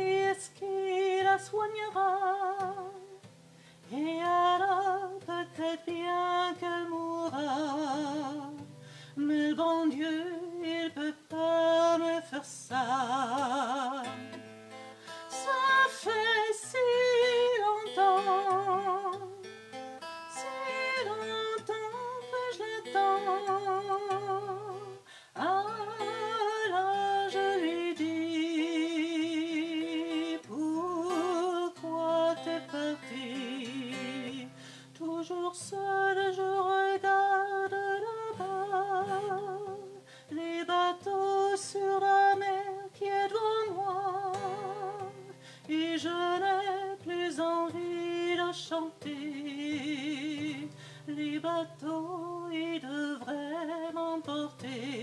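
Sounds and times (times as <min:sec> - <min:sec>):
acoustic guitar: 0:00.0 - 0:55.0
woman singing: 0:00.0 - 0:55.0.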